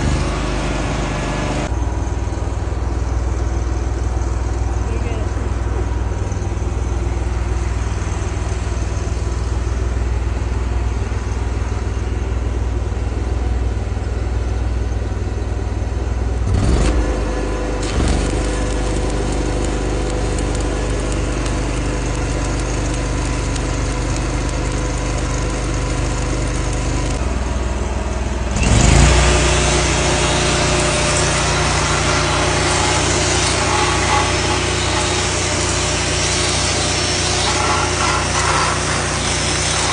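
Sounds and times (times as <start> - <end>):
steady higher hum: 0.0 - 16.4, 17.0 - 39.9
engine running: 0.0 - 39.9.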